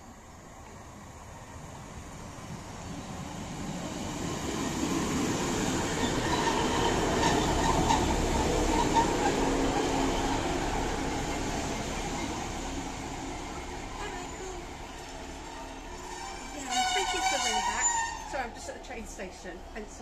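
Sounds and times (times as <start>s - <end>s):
diesel train arriving: 0.0s - 20.0s.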